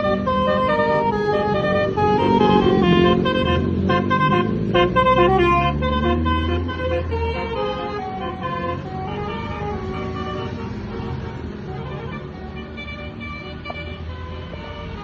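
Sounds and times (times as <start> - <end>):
bus engine rumble: 0.0 - 15.0
bus horn playing a tune: 0.0 - 15.0.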